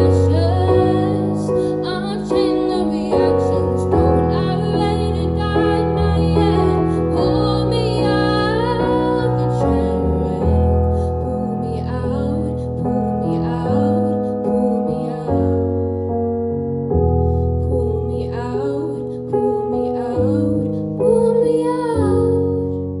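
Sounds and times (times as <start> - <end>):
woman singing slow song: 0.0 - 15.8, 17.6 - 22.9
piano chords: 0.0 - 23.0.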